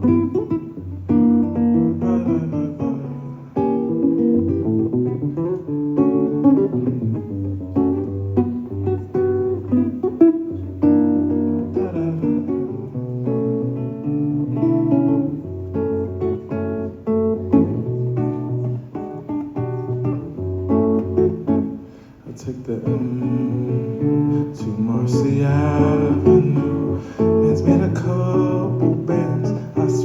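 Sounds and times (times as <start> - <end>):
acoustic guitar playing chords: 0.0 - 30.0.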